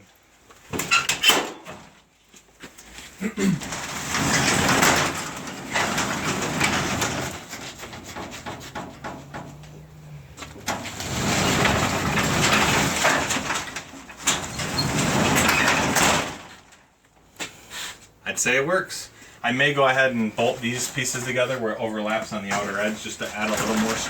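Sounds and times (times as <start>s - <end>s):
garage door rumbling and rattling: 0.6s - 2.1s, 3.1s - 17.0s, 19.6s - 24.0s.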